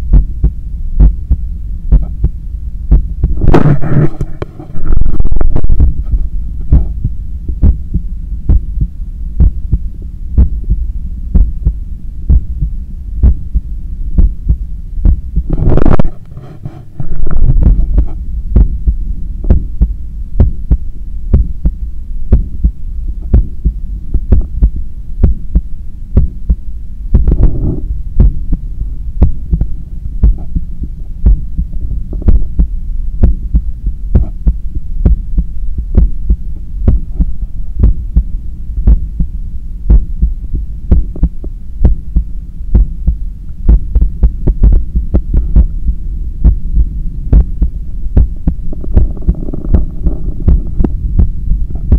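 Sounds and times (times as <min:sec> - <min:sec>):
heartbeat through stethoscope: 0:00.0 - 0:51.9.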